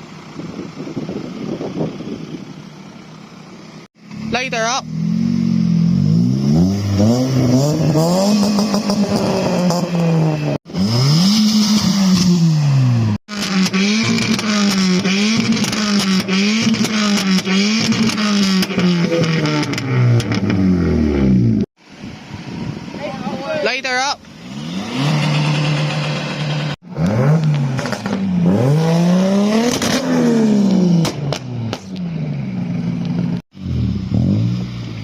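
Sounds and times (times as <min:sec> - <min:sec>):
car engine revving: 0:03.9 - 0:21.7, 0:24.3 - 0:35.0.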